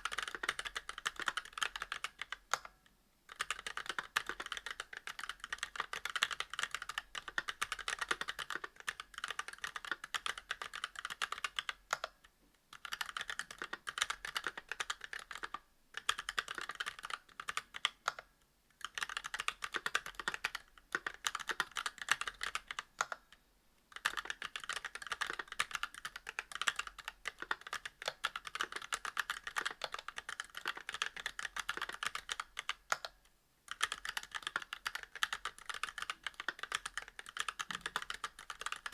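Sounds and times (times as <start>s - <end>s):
mechanical keyboard typing: 0.0s - 23.3s, 24.0s - 38.9s.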